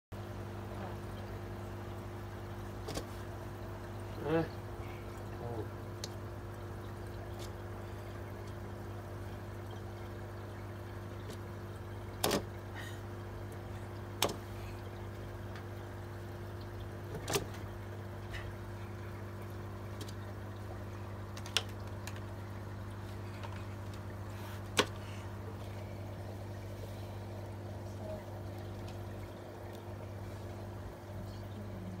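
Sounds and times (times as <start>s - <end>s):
aquarium equipment hum: 0.1s - 32.0s
faint water noise: 0.1s - 32.0s.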